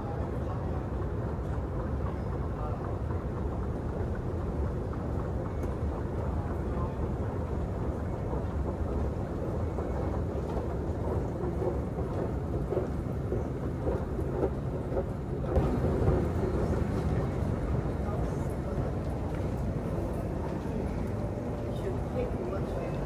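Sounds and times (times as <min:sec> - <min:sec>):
subway station ambience: 0:00.0 - 0:23.0
escalator rumbling: 0:02.6 - 0:23.0.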